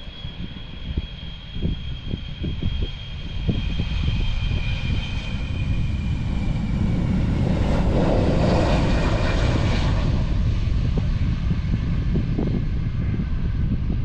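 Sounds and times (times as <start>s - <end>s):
high jet whine: 0.0s - 14.0s
jet engines roaring: 0.0s - 14.0s
wind buffeting microphone: 0.0s - 14.0s.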